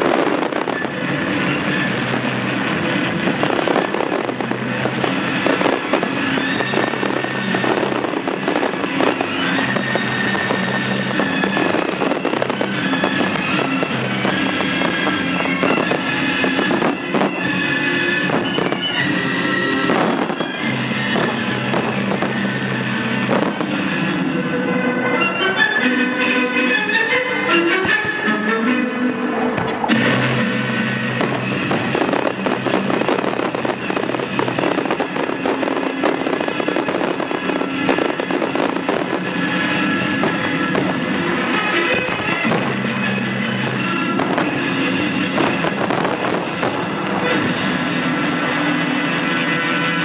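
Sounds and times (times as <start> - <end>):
fireworks bursting and crackling: 0.0 - 24.5, 29.5 - 50.0
music playing: 0.0 - 50.0.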